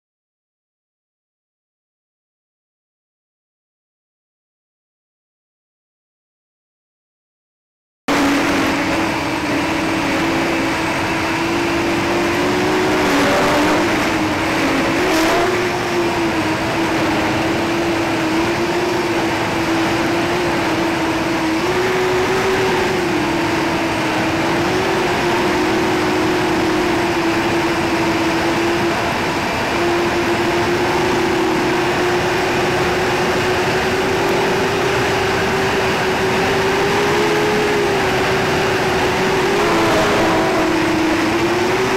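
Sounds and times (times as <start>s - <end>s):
drone motors buzzing: 8.1s - 41.9s.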